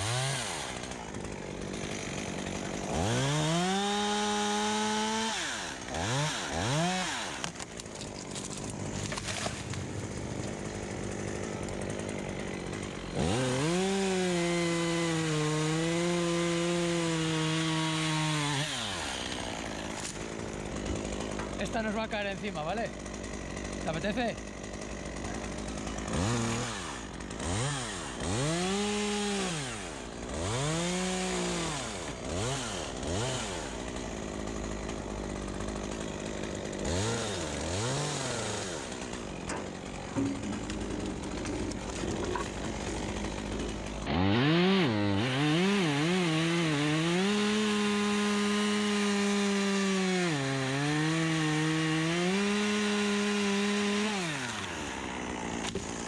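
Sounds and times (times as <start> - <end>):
chainsaw revving and cutting wood: 0.0 - 56.0.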